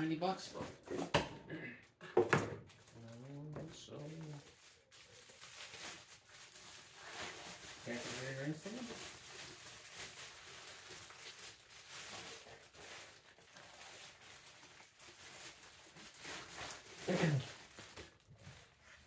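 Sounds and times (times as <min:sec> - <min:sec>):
packaging rustling: 0:02.6 - 0:19.0.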